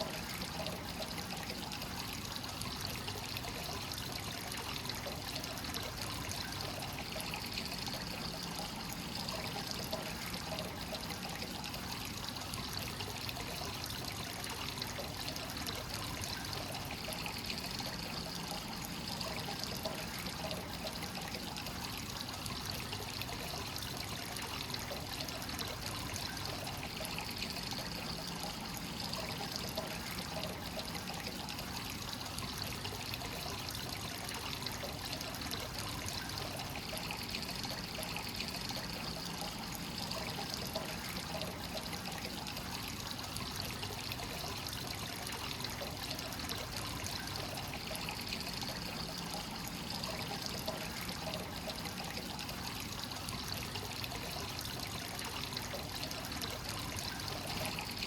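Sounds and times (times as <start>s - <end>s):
water pouring into a bath: 0.0s - 58.0s.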